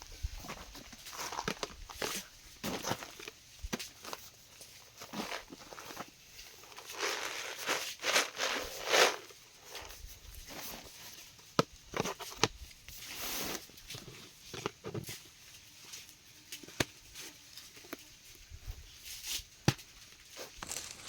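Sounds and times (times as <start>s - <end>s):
rustling and brushing: 0.0s - 21.0s.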